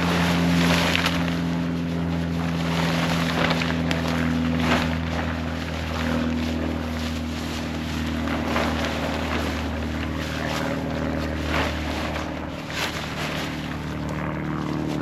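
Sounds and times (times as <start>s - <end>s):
low mechanical hum: 0.0s - 15.0s
tarp rustling: 0.0s - 15.0s.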